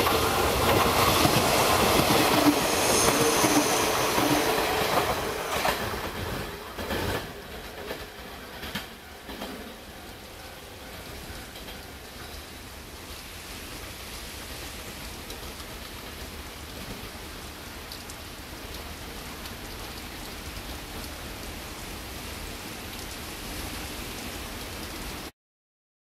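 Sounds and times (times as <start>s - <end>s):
rain hissing: 0.0s - 25.3s.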